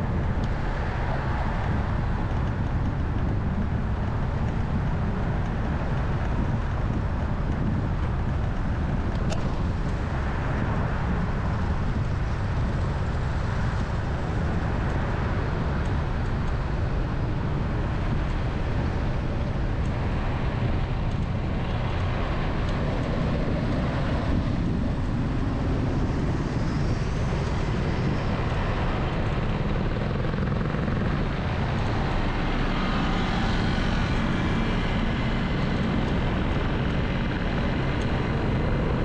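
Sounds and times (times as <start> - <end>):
traffic: 0.0 - 39.0
vehicle rumbling on city road: 0.0 - 39.0.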